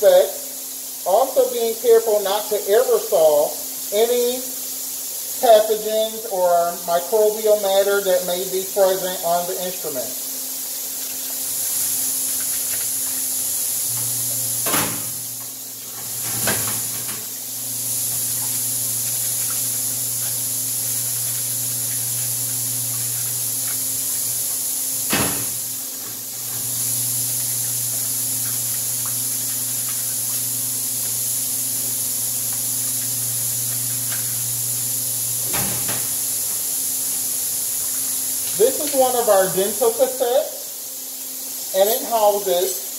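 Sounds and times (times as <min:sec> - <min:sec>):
machinery hiss and hum: 0:00.0 - 0:42.9.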